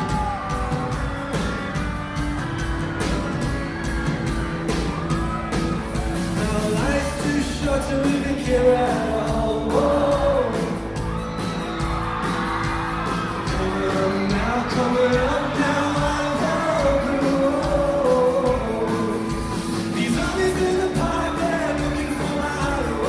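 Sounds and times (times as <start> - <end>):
live band playing pop-rock: 0.0 - 23.0.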